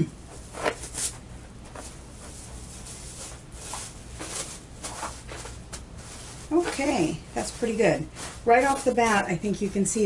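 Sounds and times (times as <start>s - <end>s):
plastic sheet rustling and crinkling: 0.3s - 10.0s.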